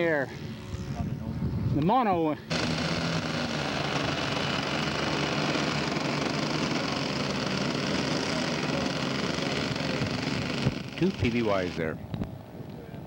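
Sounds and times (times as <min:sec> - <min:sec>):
model airplane engines droning: 0:00.0 - 0:12.6.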